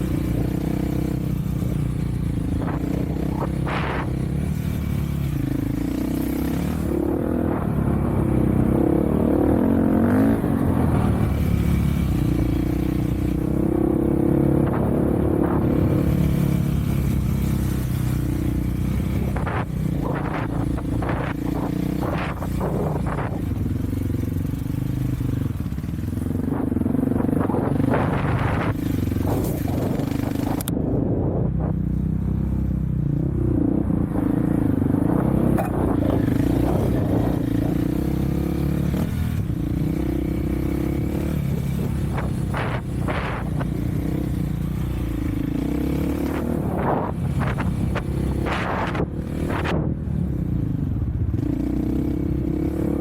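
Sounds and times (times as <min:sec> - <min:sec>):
off-road vehicle engine: 0:00.0 - 0:53.0.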